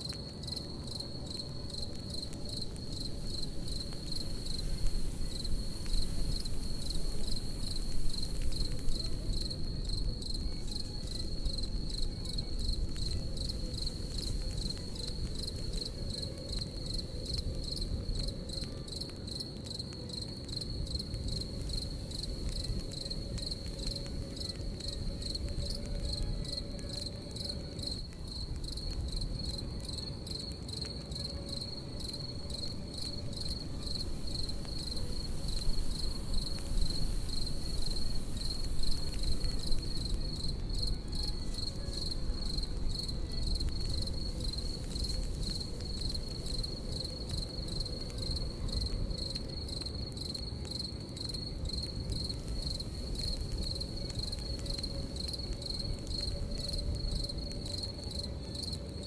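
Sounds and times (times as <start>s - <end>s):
campfire rumbling and crackling: 0.0s - 59.0s
crickets trilling: 0.0s - 59.0s.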